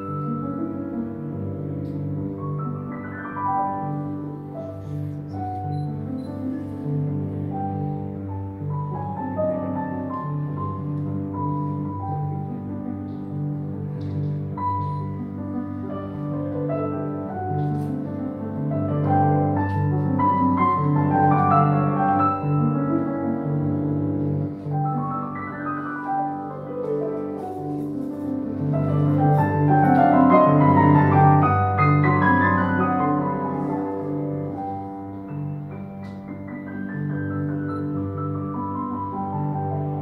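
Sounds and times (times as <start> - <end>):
solo classical piano: 0.0 - 40.0.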